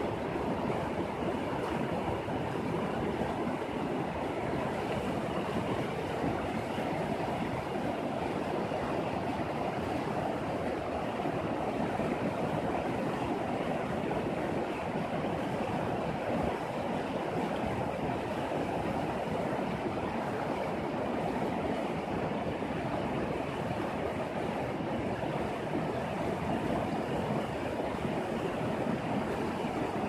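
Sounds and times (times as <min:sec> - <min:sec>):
river rushing over rocks: 0:00.1 - 0:30.0.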